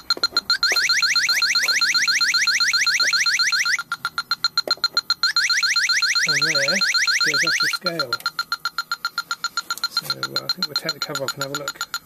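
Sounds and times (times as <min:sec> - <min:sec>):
leak detector clicking: 0:00.0 - 0:12.0
leak detector rising chirps: 0:00.0 - 0:12.0.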